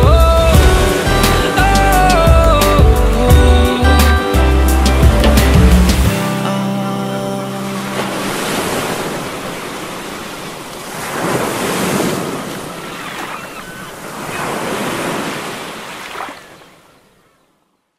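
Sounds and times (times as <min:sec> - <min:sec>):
ocean surf washing up beach: 0:00.0 - 0:03.0, 0:04.2 - 0:17.1.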